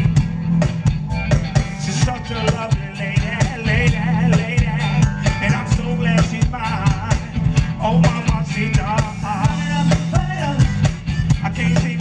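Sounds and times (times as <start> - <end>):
bass line: 0.0 - 12.0
drum beat: 0.0 - 12.0
electric guitars: 0.0 - 12.0
sung lead vocal: 1.5 - 12.0.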